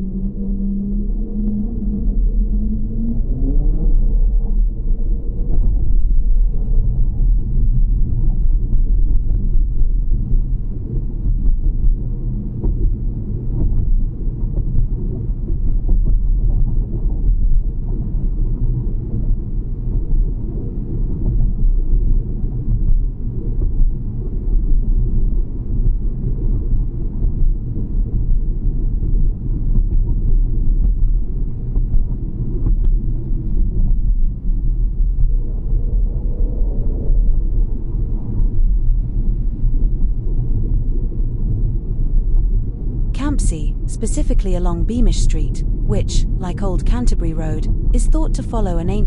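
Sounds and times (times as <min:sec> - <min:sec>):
vehicle rumbling along a road: 0:00.0 - 0:43.2
wind noise: 0:00.0 - 0:44.0.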